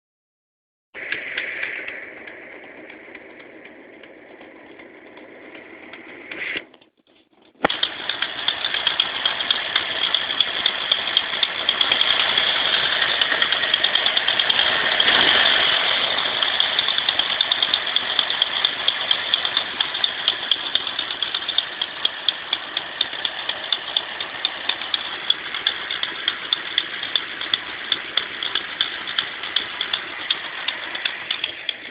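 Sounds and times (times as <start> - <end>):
car engine running: 1.0 - 31.9
fast regular engine ticking: 1.0 - 31.9.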